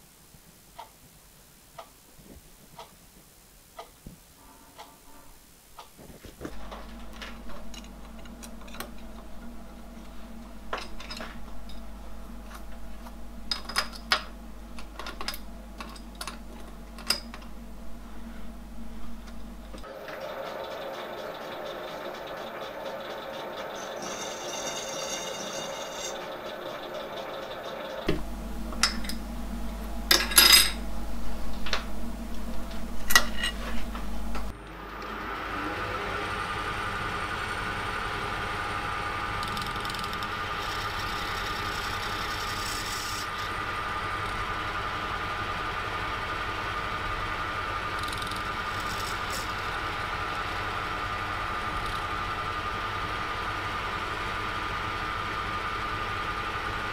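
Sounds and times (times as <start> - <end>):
metal lathe whine: 6.5 - 56.9
slitting saw running: 6.5 - 56.9.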